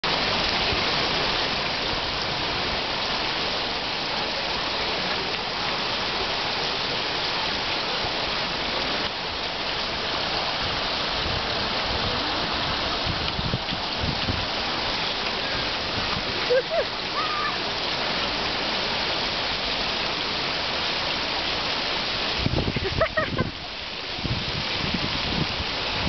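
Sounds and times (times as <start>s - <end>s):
water spraying and splattering: 0.0s - 26.0s.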